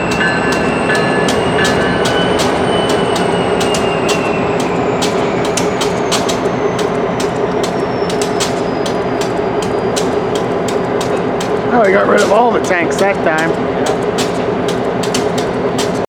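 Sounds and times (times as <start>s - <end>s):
freight cars rumbling: 0.0s - 16.0s
high wheel squeals: 0.0s - 16.0s
wheels clicking over rail joints: 0.0s - 16.0s.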